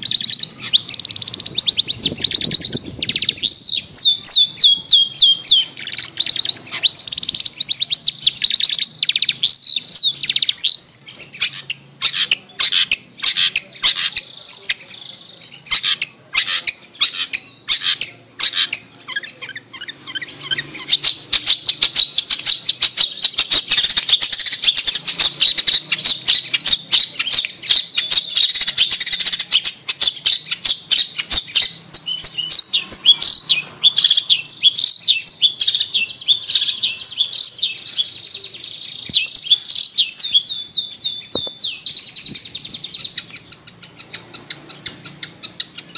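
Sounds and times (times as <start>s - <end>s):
bird scratchy chatter: 0.0s - 45.9s.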